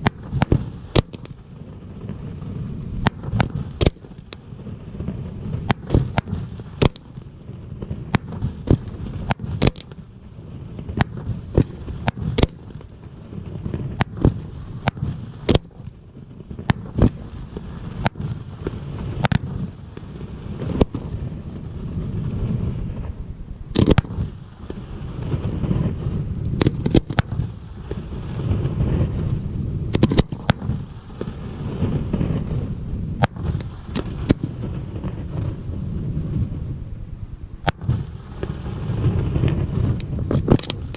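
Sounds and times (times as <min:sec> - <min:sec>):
fireworks shells bursting: 0:00.0 - 0:07.2, 0:08.1 - 0:10.1, 0:10.8 - 0:16.0, 0:16.6 - 0:21.7, 0:22.9 - 0:29.2, 0:29.9 - 0:35.6, 0:37.6 - 0:40.9
fireworks crackle: 0:00.0 - 0:40.9
low rumble of launches: 0:00.0 - 0:40.9.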